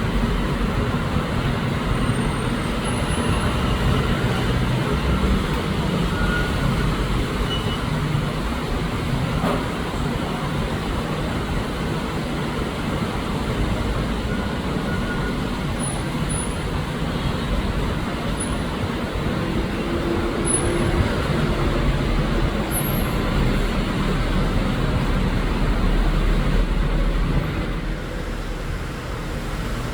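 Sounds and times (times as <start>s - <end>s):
rail and road traffic rumble: 0.0s - 29.9s.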